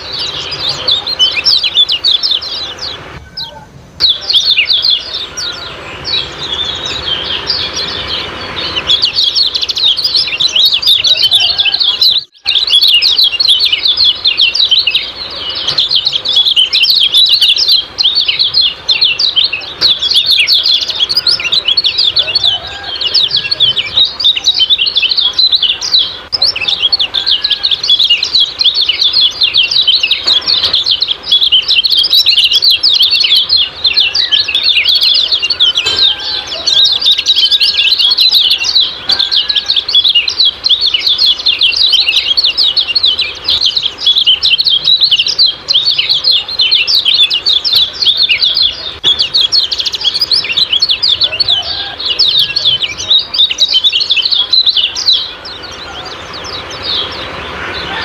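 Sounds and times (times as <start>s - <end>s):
bird chirping rapidly: 0.0s - 58.0s.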